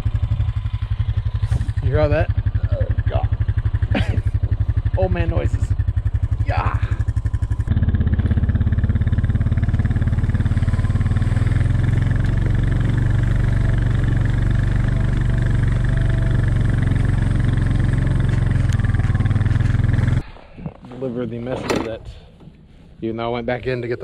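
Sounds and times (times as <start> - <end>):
atv engine running: 0.0 - 20.2.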